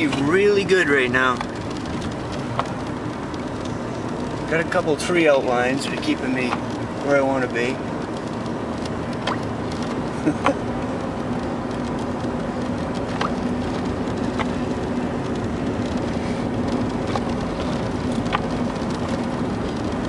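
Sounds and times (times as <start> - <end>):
engine and tyre hum: 0.0 - 20.0.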